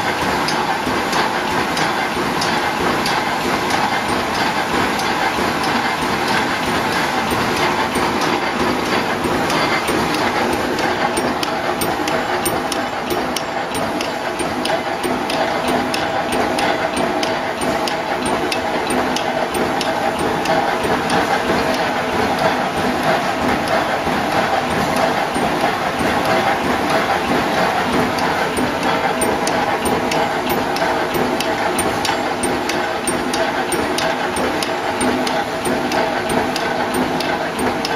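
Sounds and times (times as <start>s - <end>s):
machine mechanical hum: 0.0s - 37.9s
sharp regular clicking: 0.0s - 37.9s.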